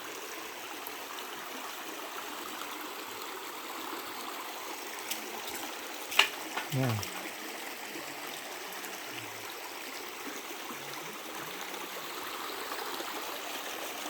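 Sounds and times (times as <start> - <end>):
creek water running over rocks: 0.0 - 14.0.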